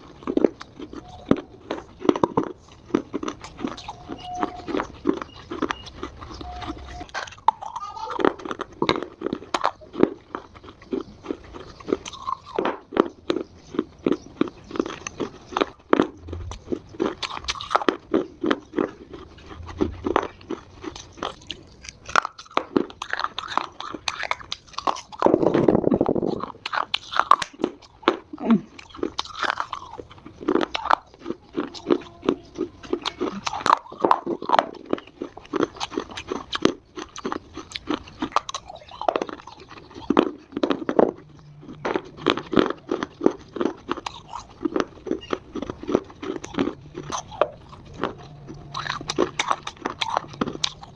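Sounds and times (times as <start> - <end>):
chewing crunchy clay: 0.0 - 50.9.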